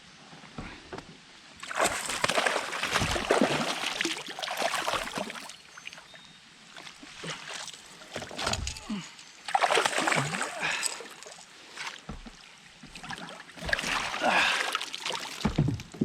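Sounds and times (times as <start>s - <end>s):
water splashing and sloshing: 0.6s - 16.0s.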